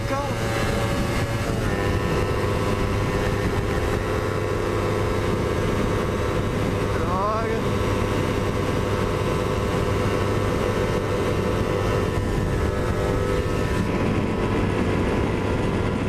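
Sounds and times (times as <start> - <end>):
motorcycle engine at high revs: 0.0 - 16.0
wind rush on microphone: 0.0 - 16.0.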